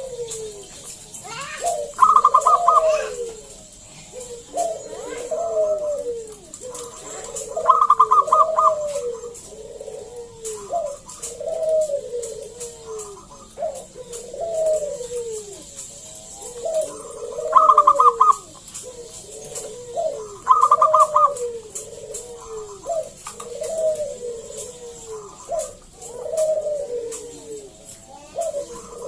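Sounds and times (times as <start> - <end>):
dove cooing: 0.0 - 29.0
fast rattling bird notes: 0.0 - 29.0.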